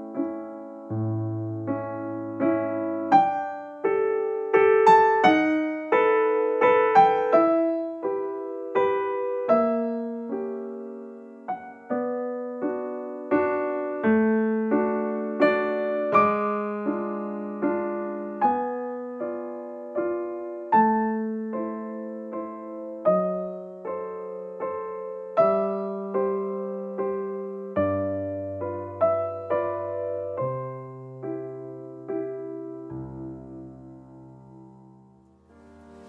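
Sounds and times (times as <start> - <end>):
slow gentle piano music: 0.0 - 36.0.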